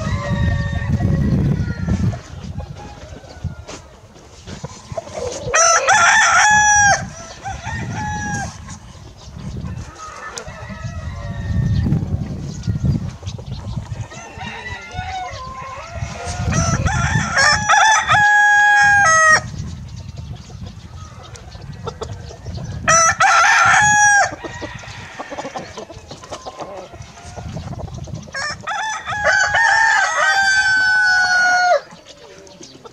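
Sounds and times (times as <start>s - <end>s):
chickens clucking: 0.0s - 32.9s
roosters crowing: 0.0s - 32.9s.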